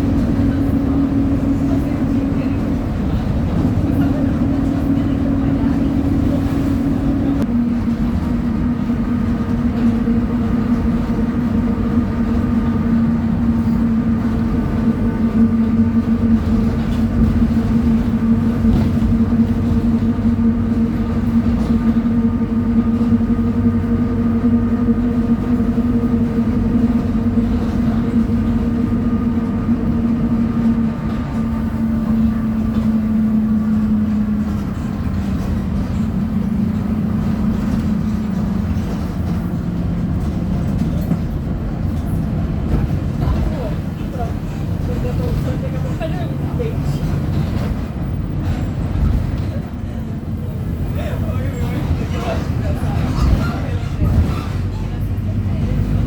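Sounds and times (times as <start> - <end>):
bus diesel engine high revs: 0.0 - 56.0.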